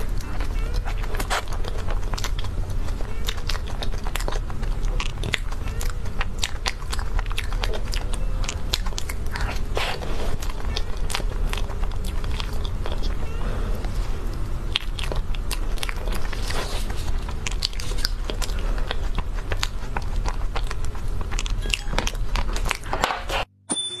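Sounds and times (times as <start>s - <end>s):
chewing and biting cake: 0.0s - 23.5s.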